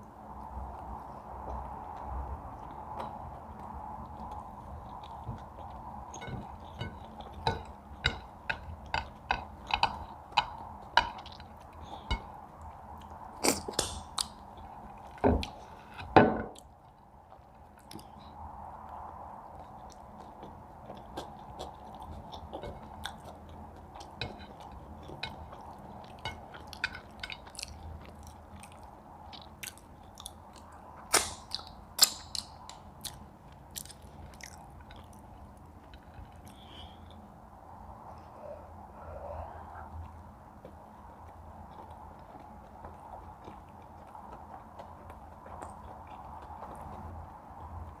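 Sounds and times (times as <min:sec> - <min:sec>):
chewing with wet mouth clicks: 0:00.8 - 0:37.3, 0:39.9 - 0:48.0.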